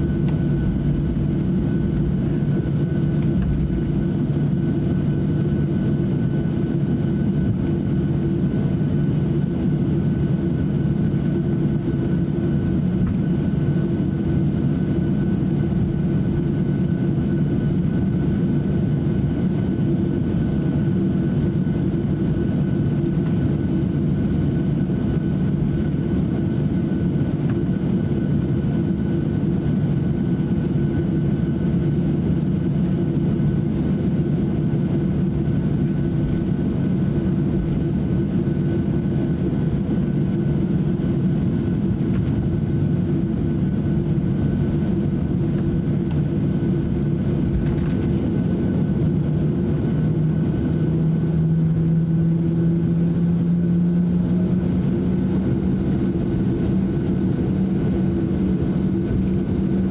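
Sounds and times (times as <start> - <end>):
faint high engine whine: 0.0 - 59.9
jet engines droning: 0.0 - 59.9.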